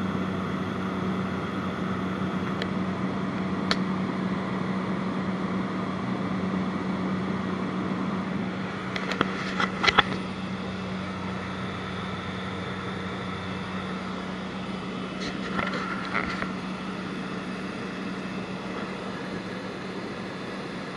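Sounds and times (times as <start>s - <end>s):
light aircraft engine drone: 0.0s - 20.9s.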